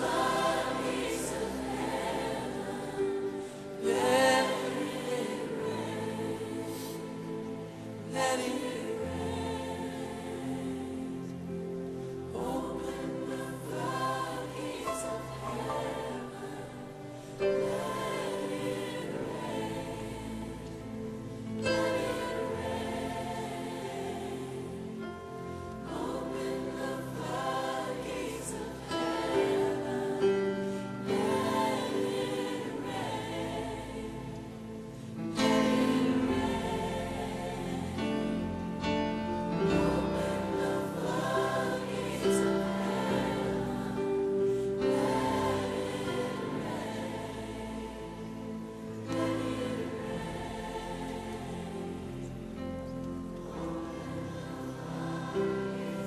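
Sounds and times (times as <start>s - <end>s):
gospel choir singing: 0.0s - 56.0s.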